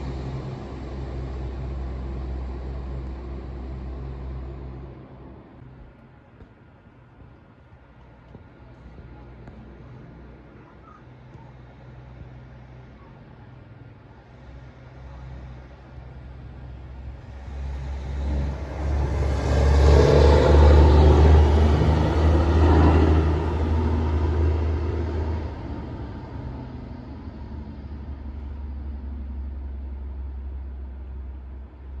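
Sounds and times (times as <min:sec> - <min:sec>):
heavy truck driving past: 0:00.0 - 0:05.8, 0:11.1 - 0:32.0.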